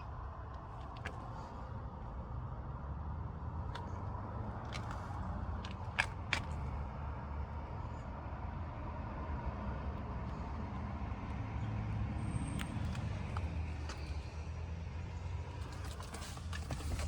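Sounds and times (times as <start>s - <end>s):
low vehicle rumble: 0.0s - 17.0s.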